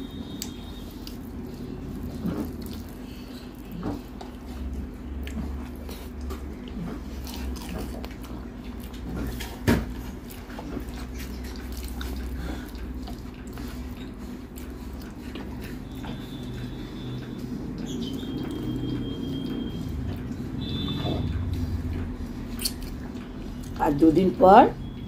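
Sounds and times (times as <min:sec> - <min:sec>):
steady low hum: 0:00.0 - 0:25.0
chewing: 0:00.2 - 0:23.9.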